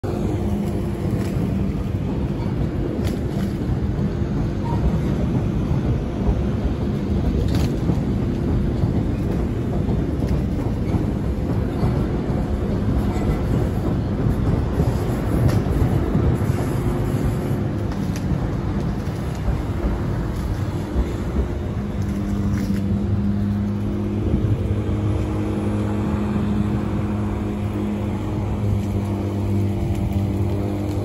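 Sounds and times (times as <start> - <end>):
train rumbling on bridge: 0.0 - 31.0.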